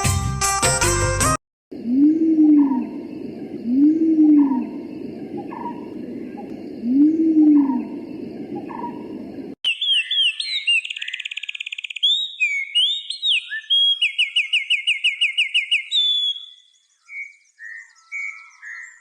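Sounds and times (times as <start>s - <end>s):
bird chirps: 1.8s - 19.0s
songbird whistles and trills: 2.4s - 19.0s.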